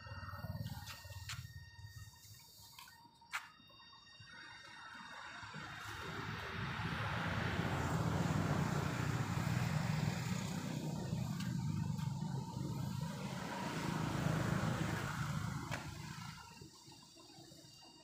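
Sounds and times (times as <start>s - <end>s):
vehicle engine running: 0.0s - 3.0s, 4.9s - 18.0s.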